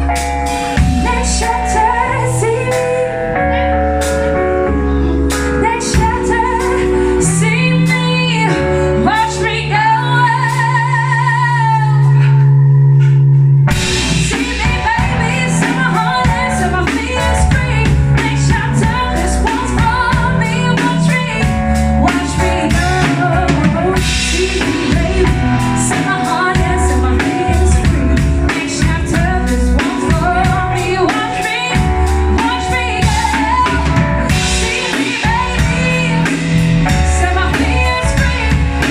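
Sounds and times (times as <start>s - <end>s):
woman singing: 0.0s - 3.7s, 5.0s - 12.7s, 14.0s - 38.9s
live rock band: 0.0s - 38.9s
sustained bass: 0.0s - 38.9s.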